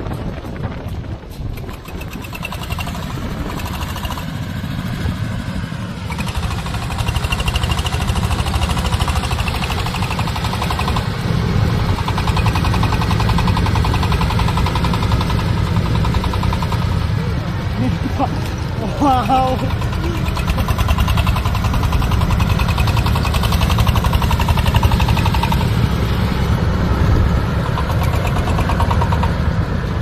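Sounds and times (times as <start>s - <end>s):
corn sheller rumbling and rattling: 0.0s - 30.0s.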